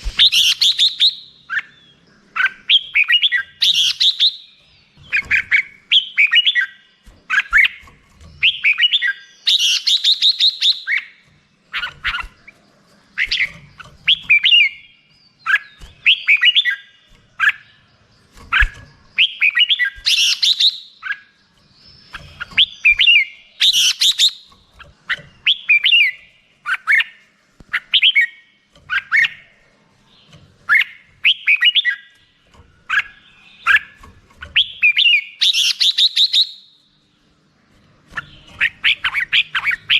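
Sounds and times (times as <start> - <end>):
bird singing whistled notes: 0.0 - 12.6, 13.2 - 29.6, 30.2 - 32.2, 32.9 - 37.0.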